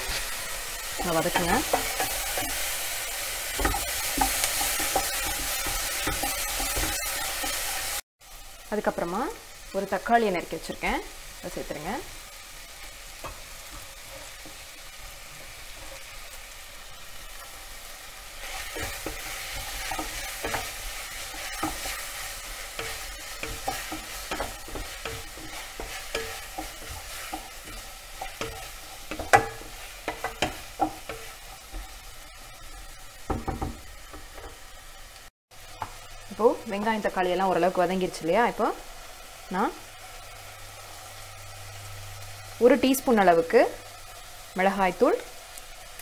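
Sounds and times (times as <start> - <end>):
onions sizzling in oil: 0.0 - 46.0.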